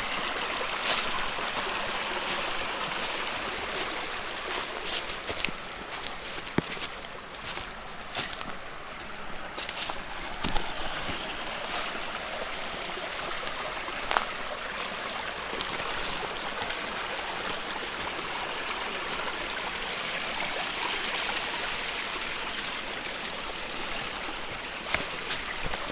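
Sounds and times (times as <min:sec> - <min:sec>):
stream water rushing: 0:00.0 - 0:25.9.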